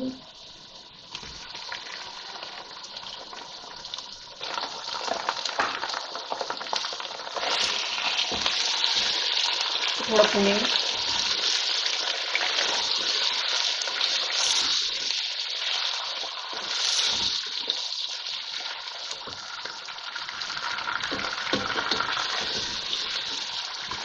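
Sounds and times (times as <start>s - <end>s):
meat and onions sizzling in oil: 0.0s - 24.0s.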